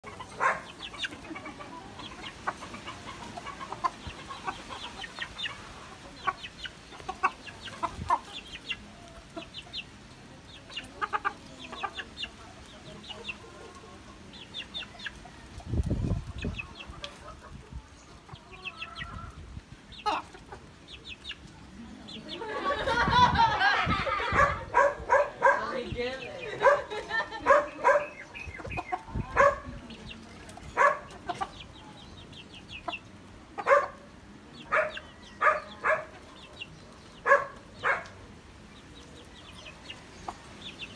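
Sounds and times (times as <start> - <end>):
chickens clucking softly: 0.0 - 40.9.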